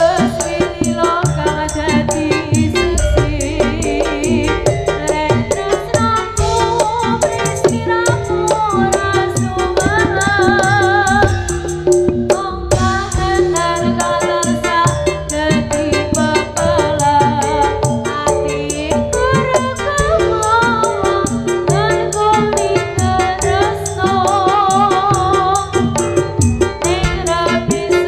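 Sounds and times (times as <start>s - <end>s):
person singing wavering melody: 0.0s - 25.6s
fast rattling percussion: 0.0s - 28.0s
gamelan-style pitched instruments: 0.0s - 28.0s.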